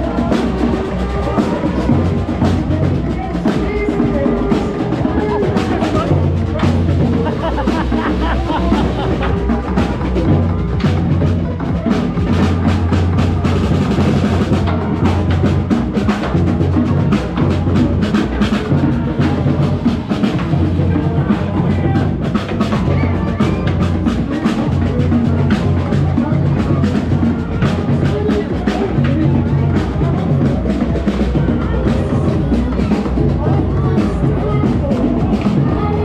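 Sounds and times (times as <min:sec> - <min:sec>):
drums keeping a steady beat: 0:00.0 - 0:36.0
marching band playing: 0:00.0 - 0:36.0.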